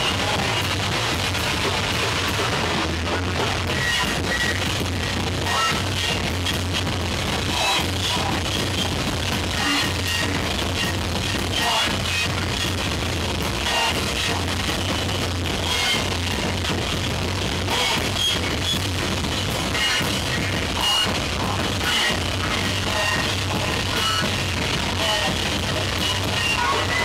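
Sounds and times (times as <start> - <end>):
heavily distorted bass guitar: 0.0 - 27.0
pounding drum kit: 0.0 - 27.0.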